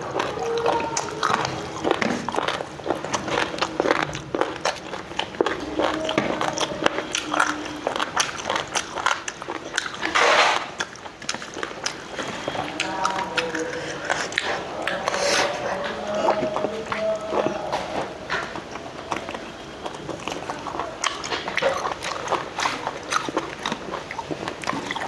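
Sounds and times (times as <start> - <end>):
person chewing rice: 0.0 - 25.0.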